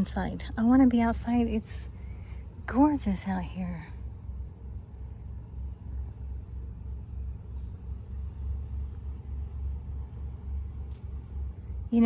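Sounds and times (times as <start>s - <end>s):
faint insects chirping: 0.0s - 12.0s
low pulsing rumble: 0.0s - 12.0s.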